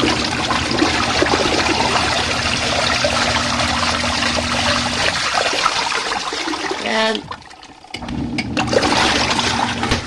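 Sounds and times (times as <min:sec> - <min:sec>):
washing machine motor humming: 0:00.0 - 0:10.0
water churning and swishing: 0:00.0 - 0:10.0.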